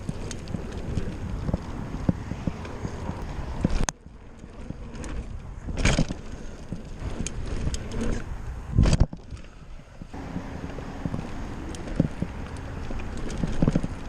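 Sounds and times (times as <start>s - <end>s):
bicycle frame rattling: 0.0s - 14.0s
bicycle tyres on dirt: 0.0s - 14.0s.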